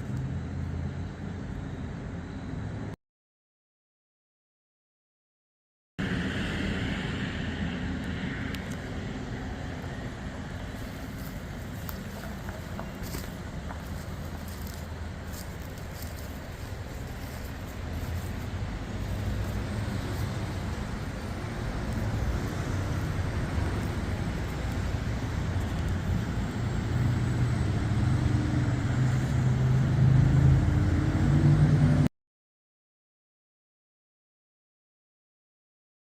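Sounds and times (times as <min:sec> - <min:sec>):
road noise: 0:00.0 - 0:03.0, 0:06.0 - 0:32.1
vehicle engine hum: 0:00.0 - 0:03.0, 0:06.0 - 0:32.1.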